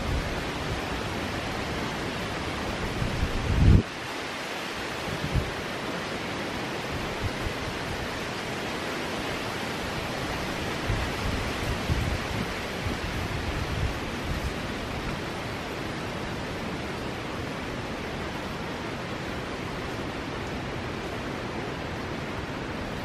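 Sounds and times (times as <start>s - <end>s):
shallow river water flowing: 0.0s - 23.0s.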